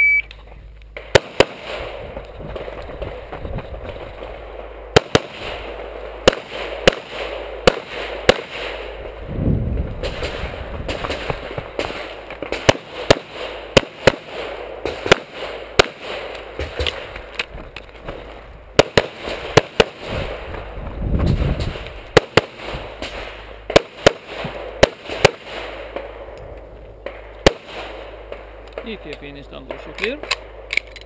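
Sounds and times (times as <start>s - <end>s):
pistol shots: 1.0s - 3.2s, 3.9s - 9.2s, 10.0s - 17.5s, 18.1s - 20.4s, 21.3s - 26.4s, 27.0s - 30.8s.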